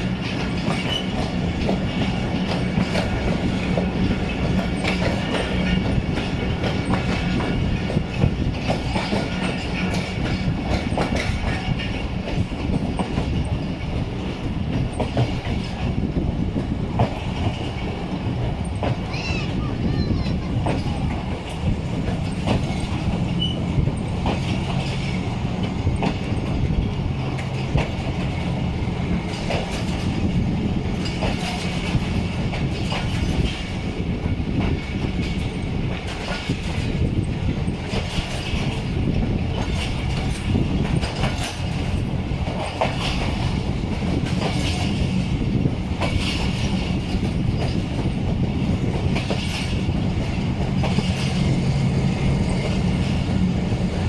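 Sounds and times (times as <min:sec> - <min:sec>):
train rumble with low hum: 0:00.0 - 0:54.0
wheels clattering over rail joints: 0:00.0 - 0:54.0.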